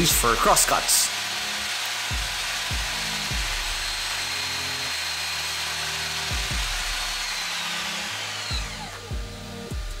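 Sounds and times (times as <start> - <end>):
table saw cutting wood: 0.0 - 10.0.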